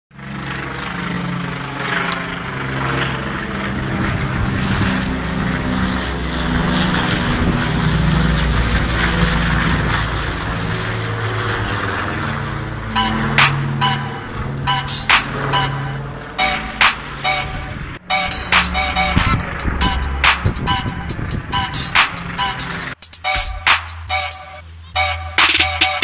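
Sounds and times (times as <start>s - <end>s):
propeller airplane drone: 0.1s - 26.0s.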